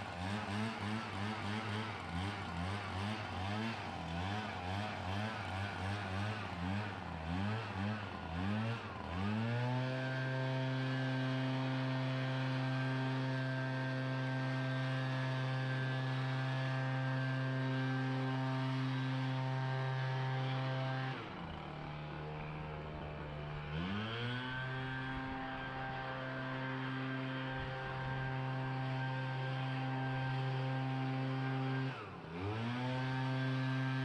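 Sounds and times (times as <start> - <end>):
leaf blower engine running: 0.0 - 34.0.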